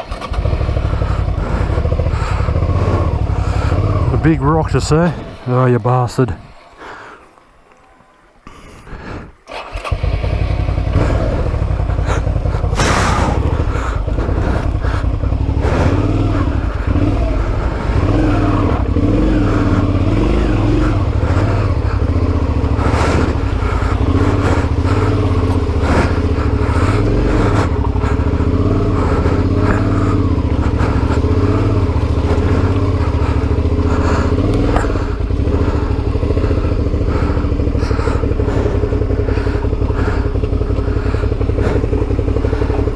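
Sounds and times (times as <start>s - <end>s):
motorcycle engine running: 0.0s - 8.2s, 9.5s - 42.9s.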